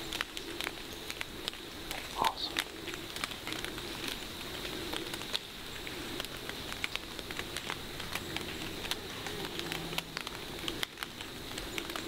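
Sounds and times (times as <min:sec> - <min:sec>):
rain pattering on leaves: 0:00.0 - 0:12.0.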